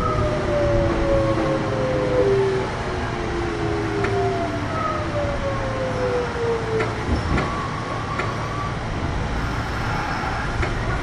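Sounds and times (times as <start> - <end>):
train inverter whining: 0.0 - 11.0
train running gear rumble: 0.0 - 11.0.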